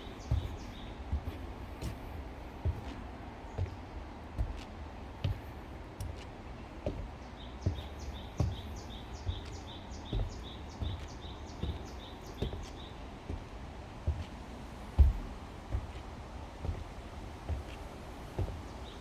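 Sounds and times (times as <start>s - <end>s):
footsteps on forest path: 0.0s - 19.0s.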